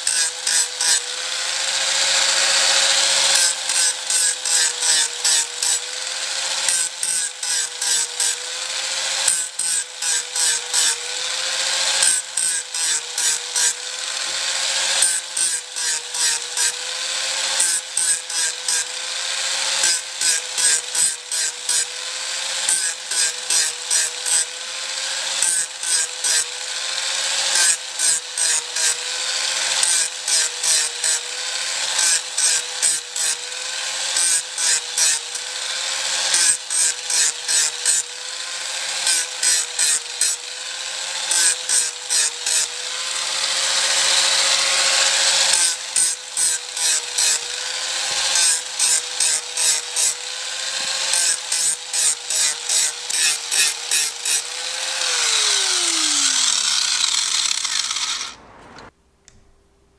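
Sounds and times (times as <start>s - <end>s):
angle grinder grinding metal rim: 0.0s - 58.9s.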